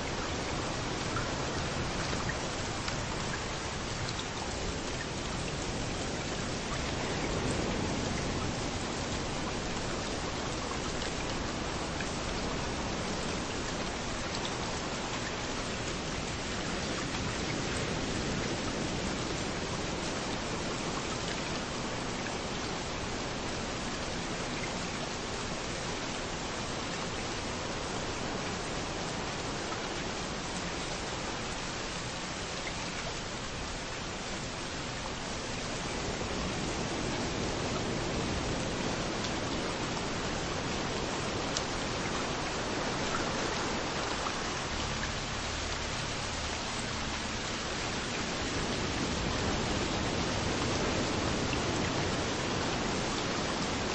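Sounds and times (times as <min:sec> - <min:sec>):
steady rain falling: 0:00.0 - 0:53.9
waves washing on a beach: 0:00.0 - 0:53.9.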